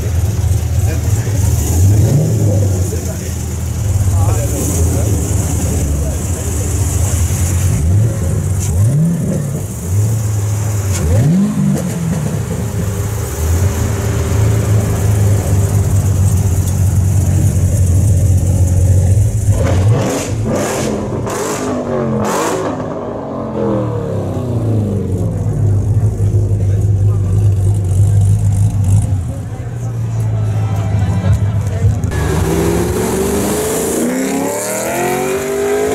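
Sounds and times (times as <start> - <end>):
car engine revving and idling: 0.0 - 35.9.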